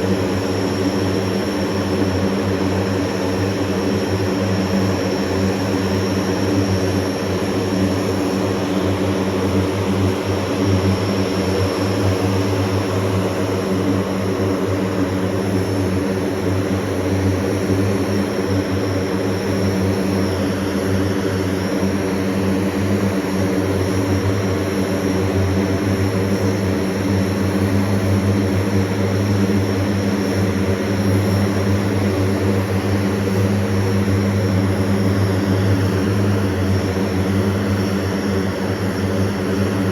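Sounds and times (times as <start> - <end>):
propeller aircraft engines droning: 0.0 - 39.9.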